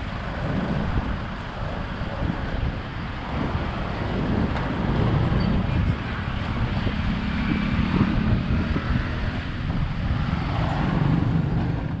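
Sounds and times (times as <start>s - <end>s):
motorbike and car engines passing: 0.0s - 12.0s.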